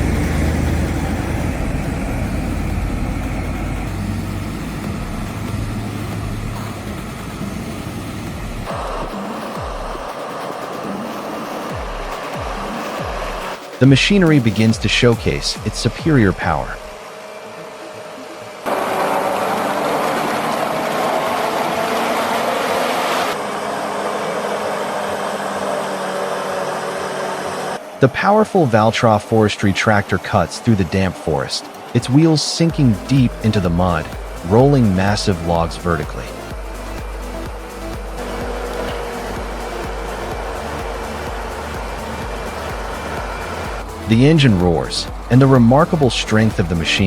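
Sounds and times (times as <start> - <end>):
hissing: 0.0 - 15.6, 16.3 - 47.0
heavy machinery engine droning: 0.0 - 47.0.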